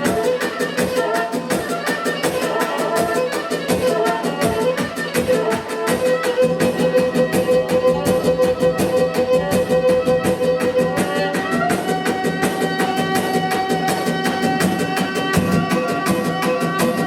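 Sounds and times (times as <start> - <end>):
fast steady beat: 0.0 - 17.0
fiddle playing folk music: 0.0 - 17.0.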